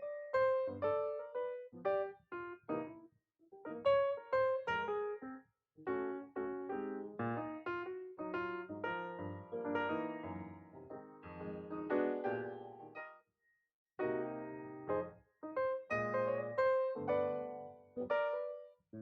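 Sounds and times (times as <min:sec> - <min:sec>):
piano music: 0:00.0 - 0:03.0, 0:03.7 - 0:13.2, 0:14.0 - 0:18.7.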